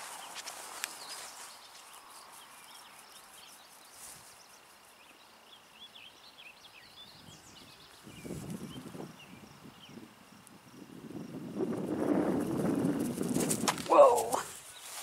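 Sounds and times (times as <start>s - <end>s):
small birds chirping: 0.0s - 10.1s, 12.4s - 15.0s
faint outdoor hiss: 0.0s - 15.0s.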